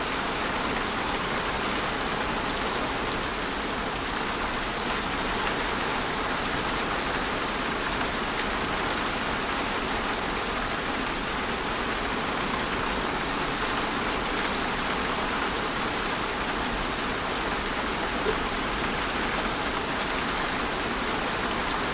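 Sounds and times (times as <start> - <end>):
steady rainfall: 0.0 - 21.9.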